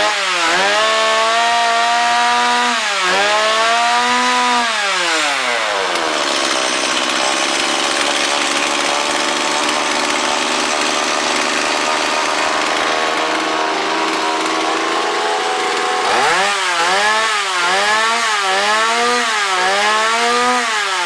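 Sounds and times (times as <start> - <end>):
chainsaw dropping to idle: 0.0 - 21.0.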